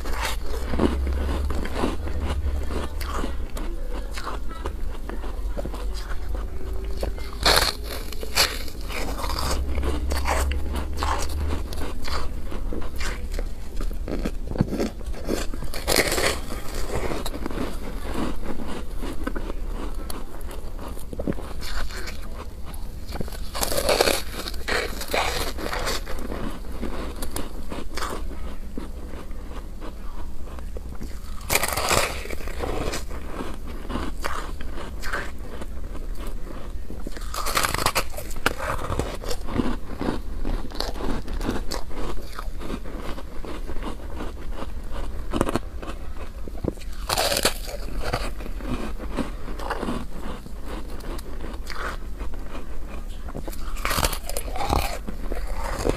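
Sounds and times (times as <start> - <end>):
crunchy chewing: 0.0 - 55.9
steady low hum: 0.0 - 55.9.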